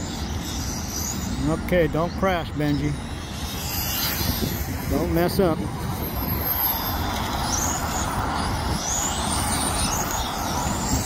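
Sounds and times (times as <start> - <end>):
rc cars high-pitched whine: 0.0 - 11.0
steady low rumble: 0.0 - 11.0.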